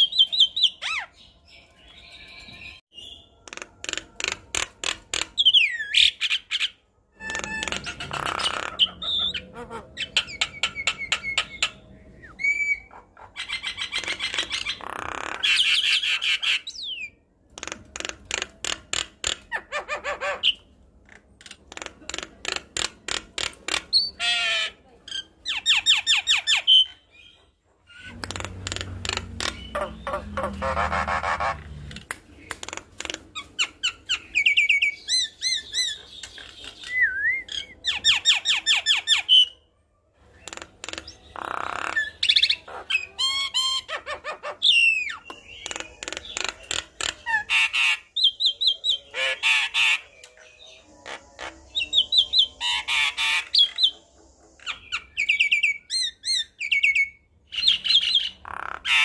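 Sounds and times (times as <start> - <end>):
myna bird singing: 0.0 - 59.0.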